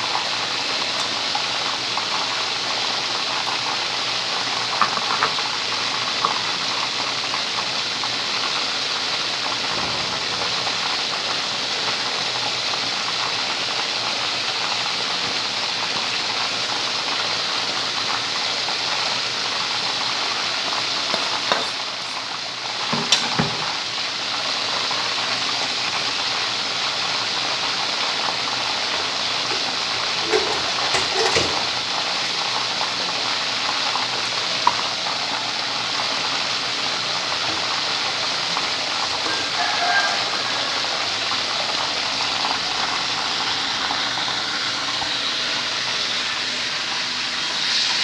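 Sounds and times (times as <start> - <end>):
chicken sizzling in oil: 0.0 - 48.0.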